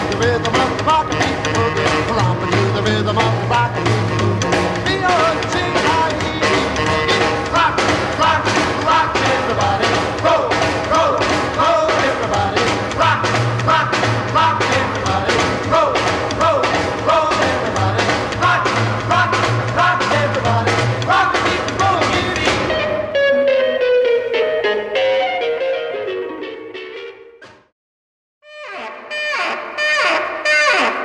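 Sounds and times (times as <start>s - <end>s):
rock and roll instrumental: 0.0s - 27.7s.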